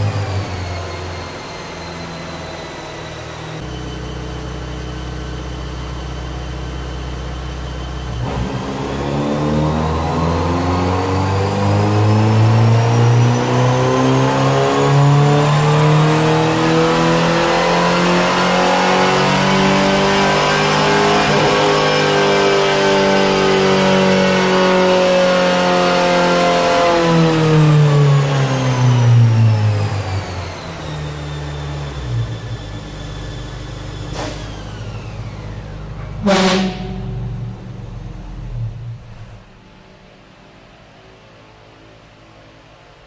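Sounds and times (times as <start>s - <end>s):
engine revving on dyno: 0.0s - 39.9s.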